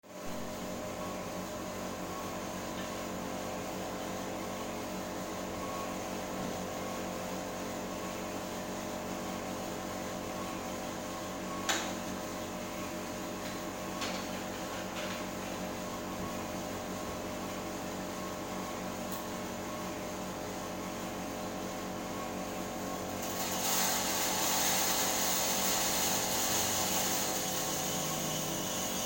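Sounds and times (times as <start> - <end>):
coffee roaster motor and fan hum: 0.0 - 29.0.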